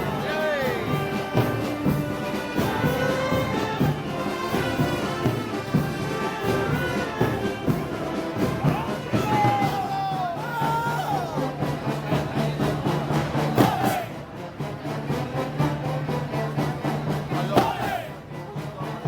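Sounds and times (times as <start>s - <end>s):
brass band playing march: 0.0s - 19.0s.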